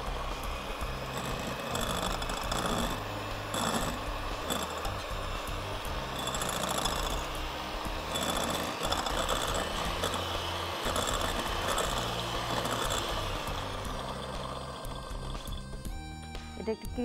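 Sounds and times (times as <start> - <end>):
electric hand mixer whirring: 0.0 - 16.9.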